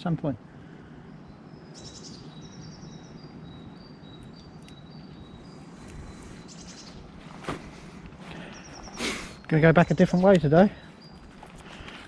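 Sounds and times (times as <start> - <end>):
outdoor background hum: 0.0 - 12.0
small birds singing and calling: 0.0 - 12.0.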